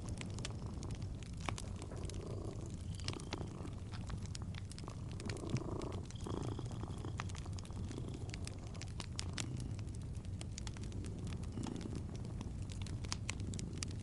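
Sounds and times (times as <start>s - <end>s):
cat purring: 0.0s - 14.0s
wood fire crackling: 0.0s - 14.0s.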